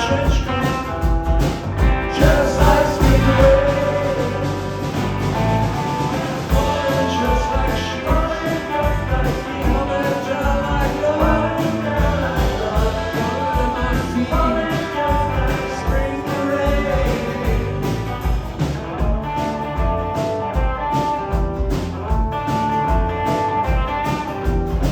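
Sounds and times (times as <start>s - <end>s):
bass guitar: 0.0s - 24.9s
drums steady beat: 0.0s - 24.9s
guitars: 0.0s - 24.9s.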